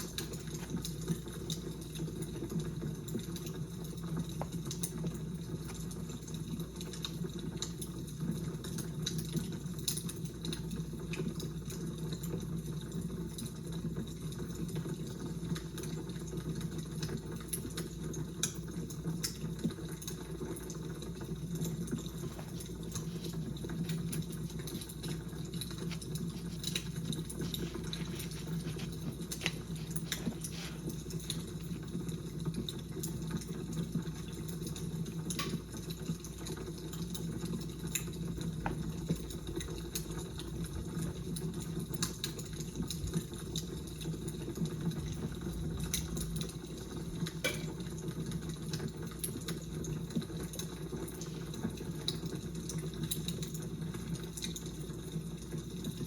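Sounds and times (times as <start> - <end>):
fire crackling: 0.0 - 10.0, 17.2 - 56.0.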